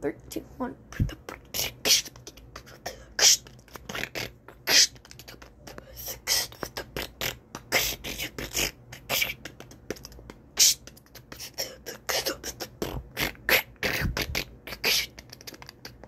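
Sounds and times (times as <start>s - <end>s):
boy beatboxing: 0.7s - 16.0s.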